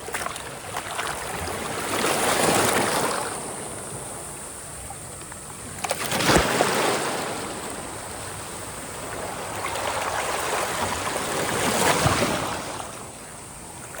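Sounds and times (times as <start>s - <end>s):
waves breaking on shore: 0.0s - 5.0s, 5.6s - 14.0s
surf washing: 0.0s - 14.0s.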